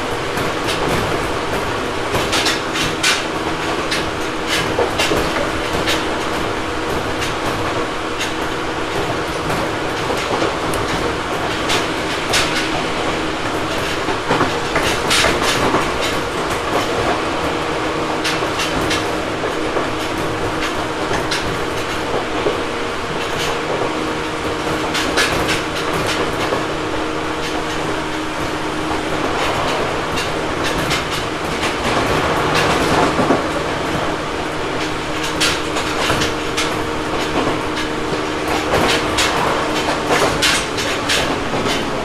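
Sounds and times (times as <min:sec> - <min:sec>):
train hum and rumble: 0:00.0 - 0:42.0
wheels clicking over rail joints: 0:00.0 - 0:42.0.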